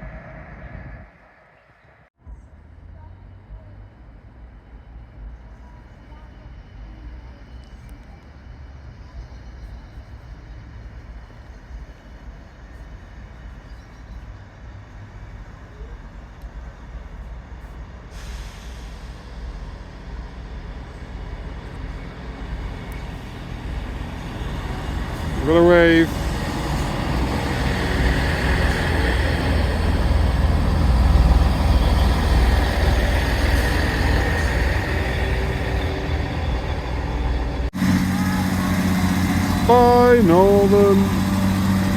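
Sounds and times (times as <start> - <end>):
train rumbling past: 0.0 - 41.9.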